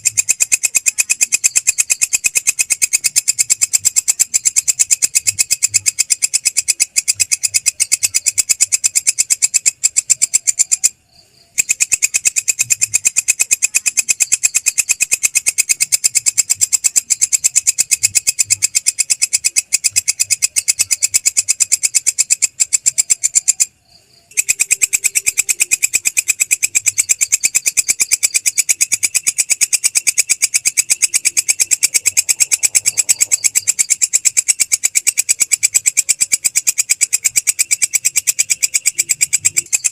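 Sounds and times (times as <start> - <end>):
grasshopper stridulating: 0.0 - 39.9.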